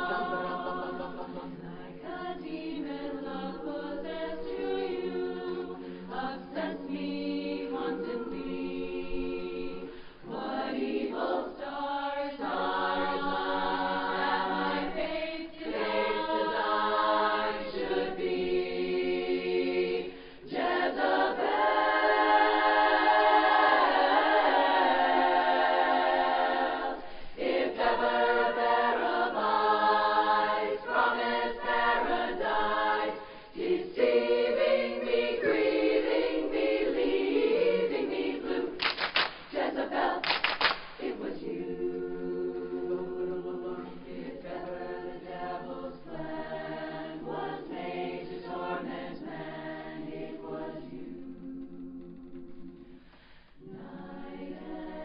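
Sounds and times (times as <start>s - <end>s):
women's chorus singing: 0.0s - 40.4s, 41.0s - 55.0s.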